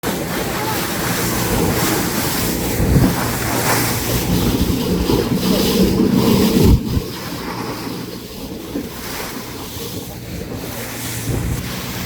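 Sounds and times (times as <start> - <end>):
boat engine hum: 0.0 - 12.0
water rushing and splashing: 0.0 - 12.0
wind buffeting microphone: 0.0 - 12.0.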